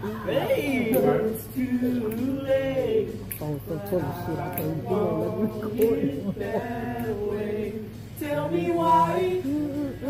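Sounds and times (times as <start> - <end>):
group singing unaccompanied: 0.0 - 10.0.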